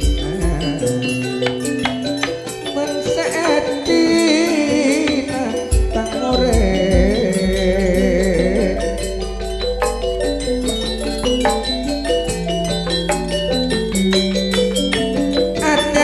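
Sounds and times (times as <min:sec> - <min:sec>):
metallophones playing a melody: 0:00.0 - 0:16.0
wavering vocal line: 0:00.0 - 0:16.0.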